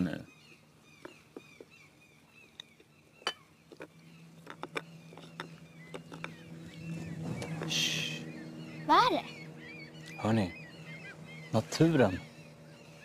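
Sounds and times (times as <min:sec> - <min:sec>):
low engine drone: 0:00.0 - 0:13.0
small birds chirping: 0:00.0 - 0:13.0.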